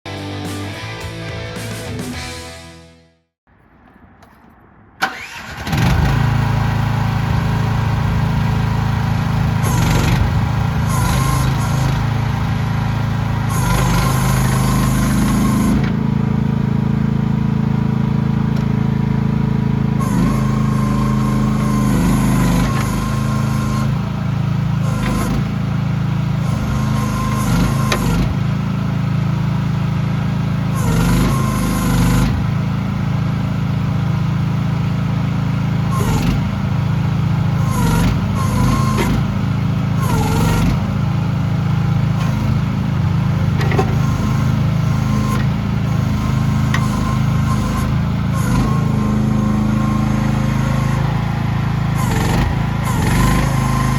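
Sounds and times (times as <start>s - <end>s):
excavator engine running: 0.1s - 2.9s, 3.5s - 53.9s.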